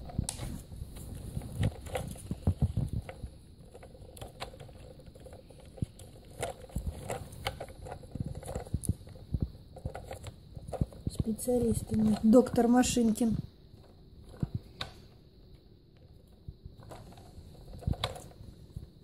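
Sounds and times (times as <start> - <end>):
plastic clicks and scrapes: 0.0 - 19.0.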